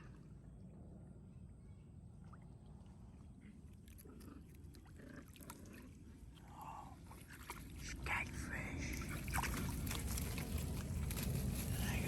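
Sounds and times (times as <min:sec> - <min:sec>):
faint water trickling: 0:00.0 - 0:12.0
low steady rumble: 0:00.0 - 0:12.0.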